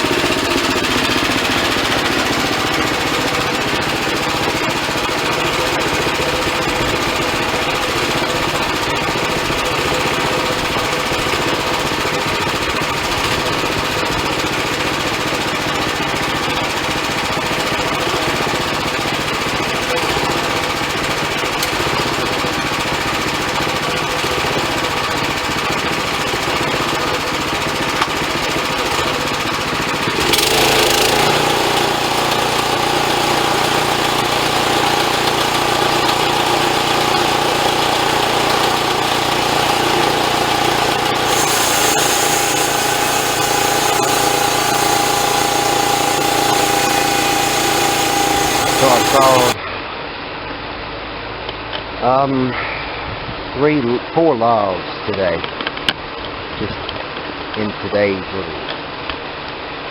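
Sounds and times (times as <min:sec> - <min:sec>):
sawmill engine running: 0:00.0 - 0:49.6.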